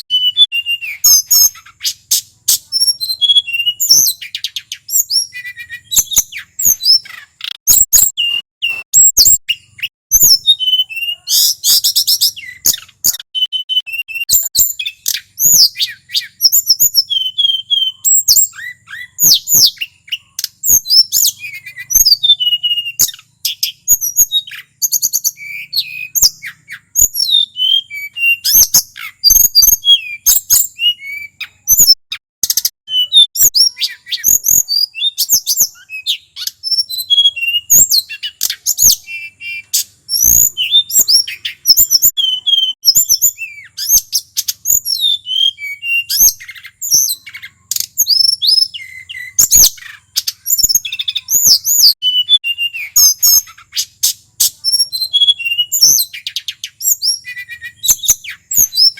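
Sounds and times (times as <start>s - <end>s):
bird singing whistled trills: 0.0s - 58.9s.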